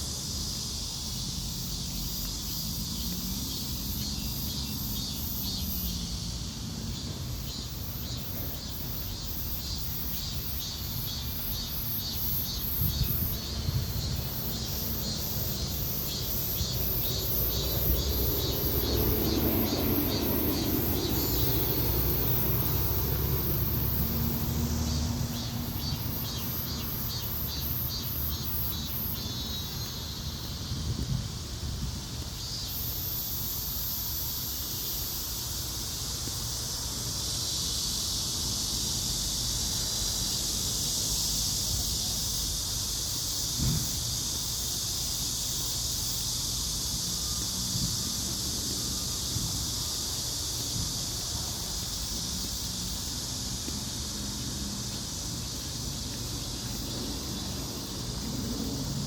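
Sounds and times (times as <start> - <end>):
high-pitched insect drone: 0.0 - 59.0
insects chirping: 0.0 - 59.0
low rumble of wind: 0.0 - 59.0.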